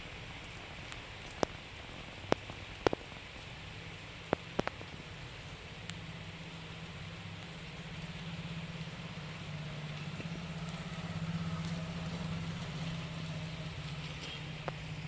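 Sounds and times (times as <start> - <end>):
rain falling: 0.0 - 15.0
engine humming: 1.7 - 15.0.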